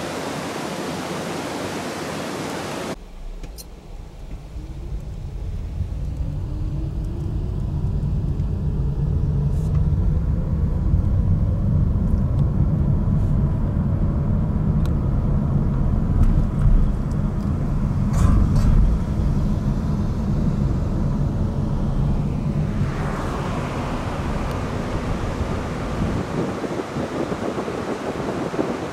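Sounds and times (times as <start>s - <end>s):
tyres and engine rumble: 2.9s - 28.7s
wind rushing: 3.9s - 28.9s.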